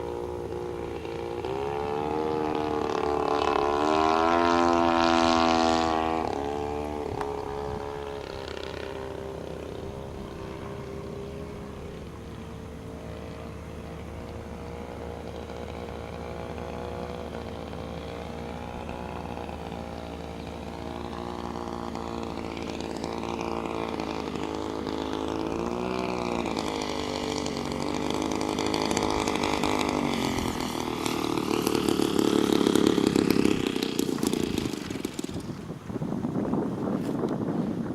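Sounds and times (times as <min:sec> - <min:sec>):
two-stroke engine driving propeller: 0:00.0 - 0:37.9.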